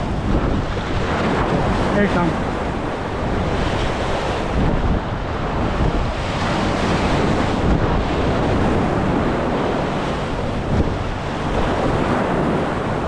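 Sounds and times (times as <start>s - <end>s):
waves against a jetty: 0.0s - 13.0s
wind buffeting microphone: 0.0s - 13.0s.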